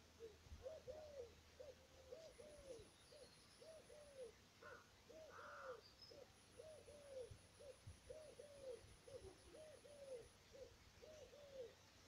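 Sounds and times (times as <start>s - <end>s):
faint high bird chirps: 0.0s - 12.0s
bird hooting calls: 0.2s - 11.8s.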